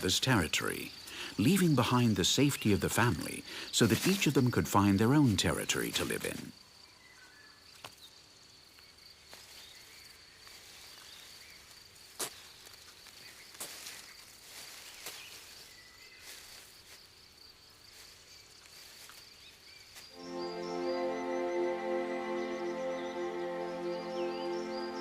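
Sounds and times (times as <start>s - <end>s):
insect trill: 0.0s - 25.0s.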